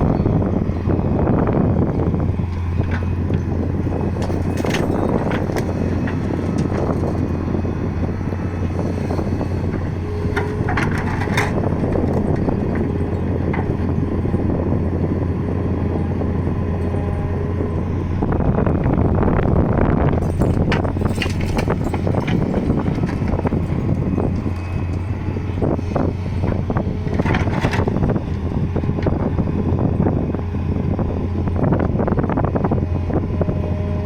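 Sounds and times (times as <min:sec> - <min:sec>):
excavator diesel engine droning: 0:00.0 - 0:34.0.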